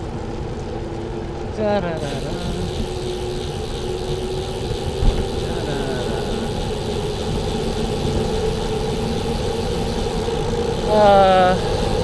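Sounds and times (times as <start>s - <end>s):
nearby traffic hum: 0.0s - 12.0s
wind and road noise: 0.0s - 12.0s.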